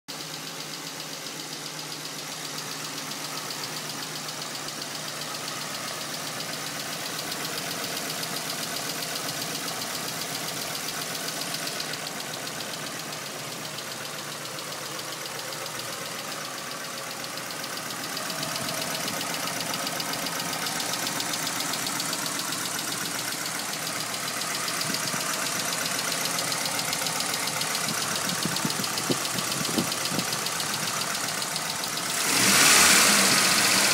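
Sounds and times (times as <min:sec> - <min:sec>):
car engine idling with ticking: 0:00.1 - 0:33.9.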